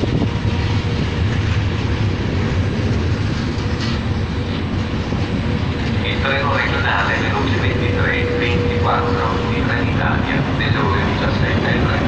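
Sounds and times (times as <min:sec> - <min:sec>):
passenger train rolling past: 0:00.0 - 0:12.0.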